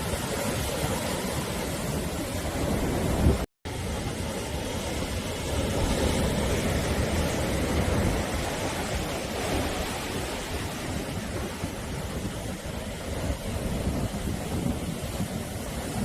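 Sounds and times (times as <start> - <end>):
sea surf washing onto shore: 0.0 - 16.0.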